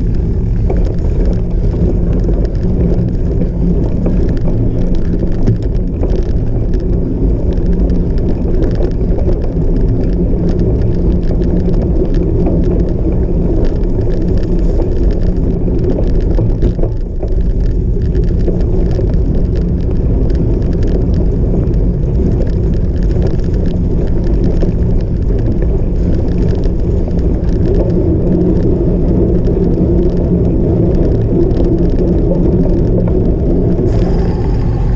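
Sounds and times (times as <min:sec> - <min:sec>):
bike rattling over rough ground: 0:00.0 - 0:34.9
low rushing wind noise: 0:00.0 - 0:34.9.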